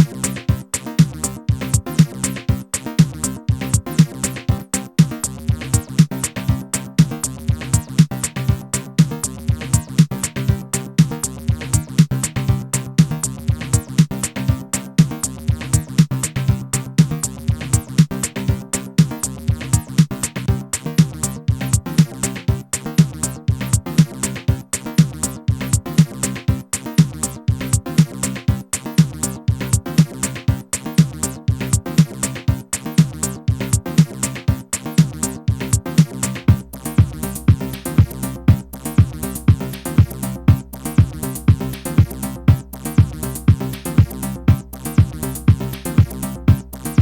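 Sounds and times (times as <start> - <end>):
repeating synth bass line: 0.0 - 47.0
techno drum machine beat: 0.0 - 47.0.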